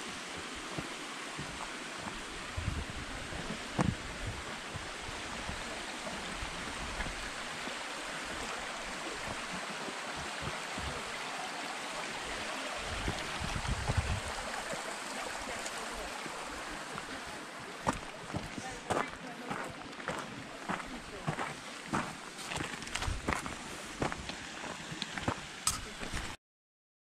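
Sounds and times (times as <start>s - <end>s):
stream babbling over stones: 0.0s - 26.4s.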